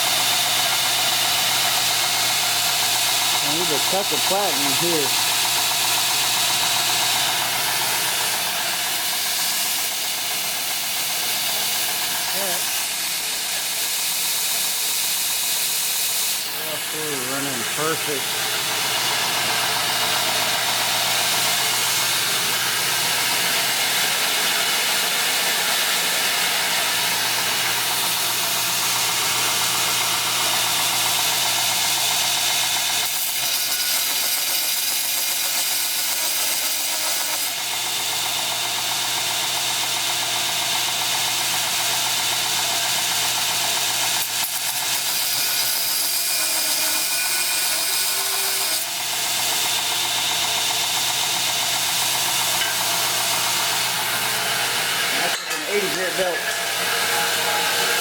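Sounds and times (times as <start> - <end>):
belt grinder running: 0.0 - 58.0.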